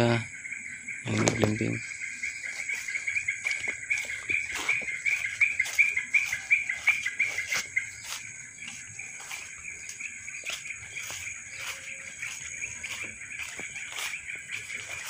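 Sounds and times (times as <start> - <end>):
bird calling rapid notes: 1.0 - 15.0
footsteps in grass and leaves: 1.1 - 15.0.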